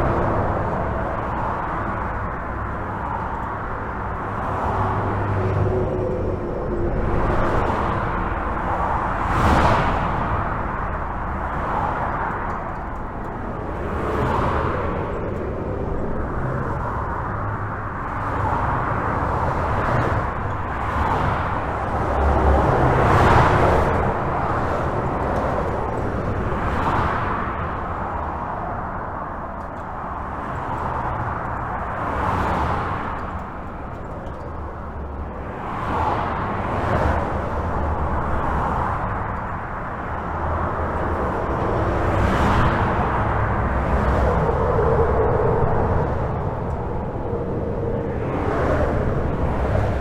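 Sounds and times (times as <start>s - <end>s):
highway traffic rumble: 0.0s - 50.0s
vehicles passing: 0.0s - 50.0s.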